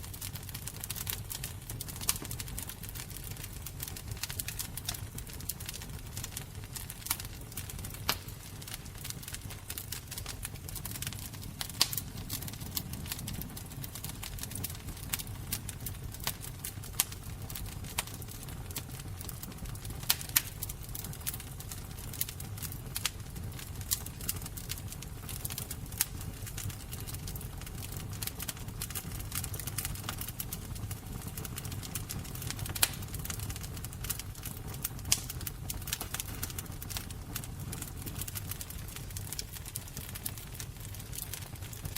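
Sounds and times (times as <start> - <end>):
fire crackling and popping: 0.0 - 41.9.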